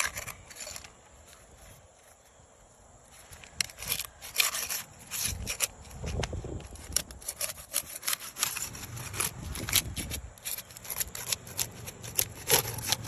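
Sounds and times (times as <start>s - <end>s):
hand tool scraping shingles: 0.0s - 1.5s, 3.4s - 13.0s.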